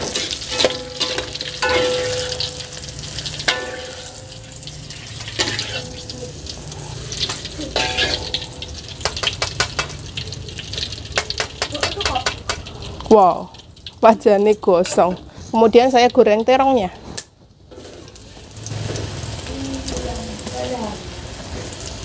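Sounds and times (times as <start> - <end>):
utensils scraping and knocking wok: 0.0 - 13.2, 14.3 - 15.7, 17.7 - 22.0
food sizzling in oil: 0.0 - 16.9, 17.6 - 22.0.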